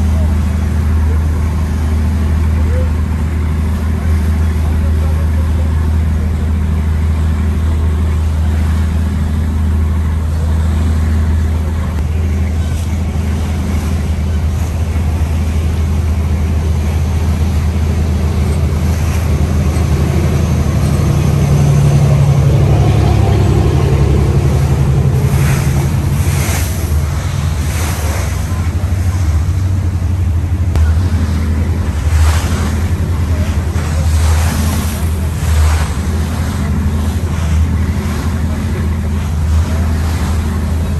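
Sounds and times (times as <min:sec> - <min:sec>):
engine droning: 0:00.0 - 0:40.9.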